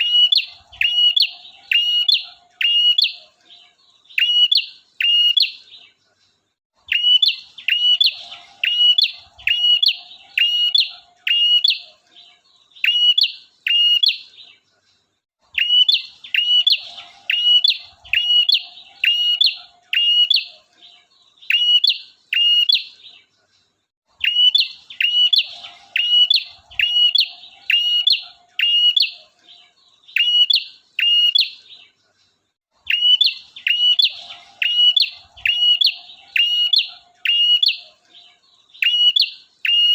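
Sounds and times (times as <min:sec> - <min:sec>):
bird singing sharp repeated notes: 0:00.0 - 0:06.0, 0:06.8 - 0:14.6, 0:15.4 - 0:23.3, 0:24.2 - 0:31.9, 0:32.8 - 0:39.9.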